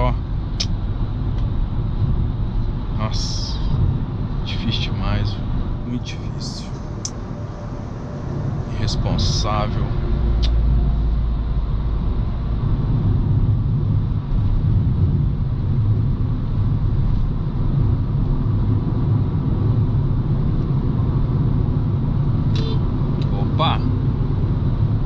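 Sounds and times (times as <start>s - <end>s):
engine and road rumble in car: 0.0s - 25.0s.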